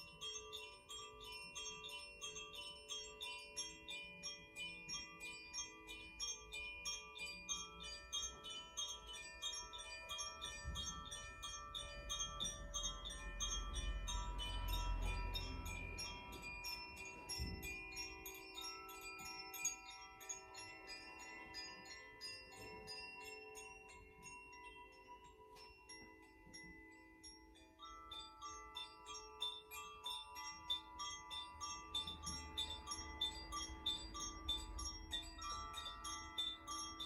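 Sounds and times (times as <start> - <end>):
chimes tinkling: 0.0 - 37.0.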